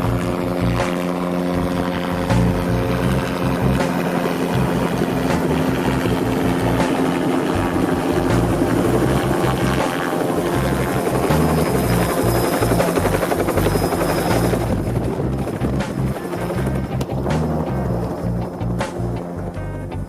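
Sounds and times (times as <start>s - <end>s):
background music with bass line: 0.0s - 20.0s
helicopter rotor and turbine: 0.0s - 20.0s.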